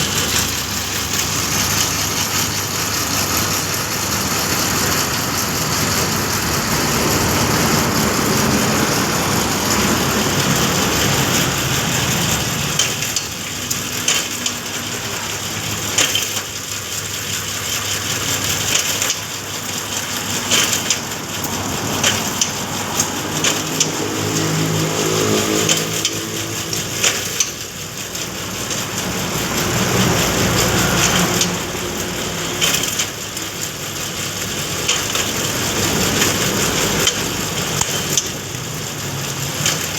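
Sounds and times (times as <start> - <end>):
skewer machine motor hum: 0.0 - 39.9.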